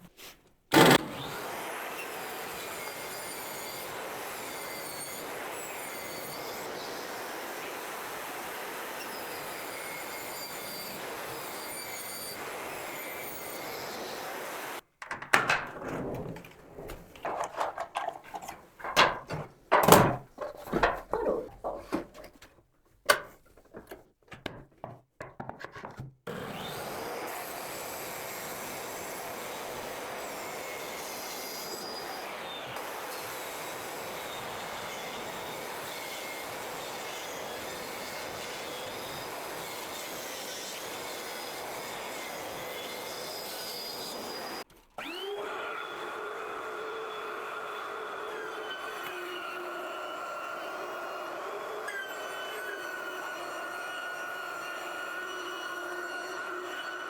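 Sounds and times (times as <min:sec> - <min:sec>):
power saw cutting wood: 0:00.7 - 0:22.3, 0:26.3 - 0:57.0.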